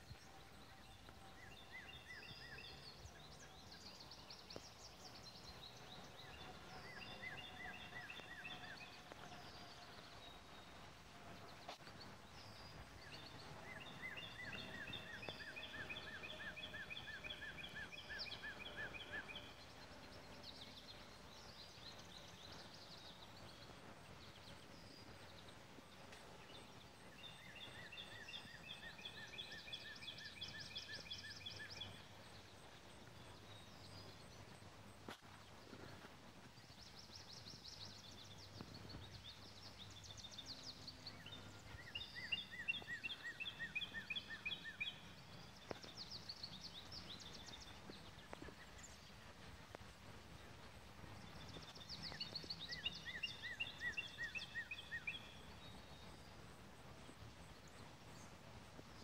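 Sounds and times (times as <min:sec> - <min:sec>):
birds chirping: 0:00.0 - 0:59.0
faint steady drone: 0:00.0 - 0:59.0.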